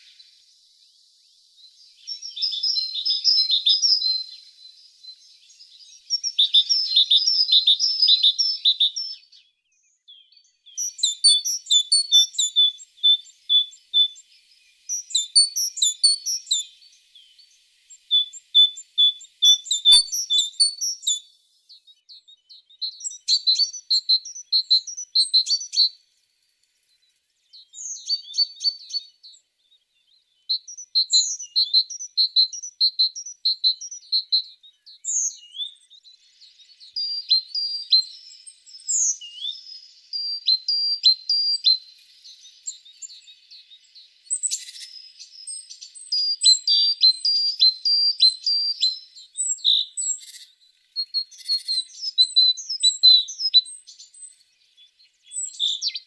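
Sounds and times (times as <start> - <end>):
birds singing high repeated notes: 0.0 - 56.0.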